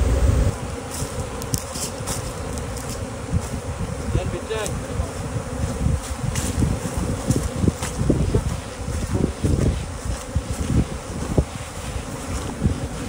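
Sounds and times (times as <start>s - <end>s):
wind rumble on microphone: 0.0s - 0.6s, 2.0s - 13.0s
bees buzzing: 0.0s - 13.0s
bees zipping past: 0.0s - 13.0s.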